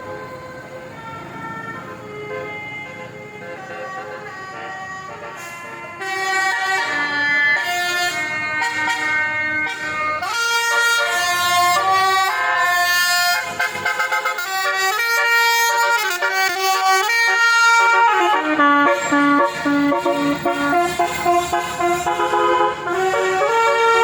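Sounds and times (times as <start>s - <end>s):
musical air horn playing a tune: 2.2s - 24.0s.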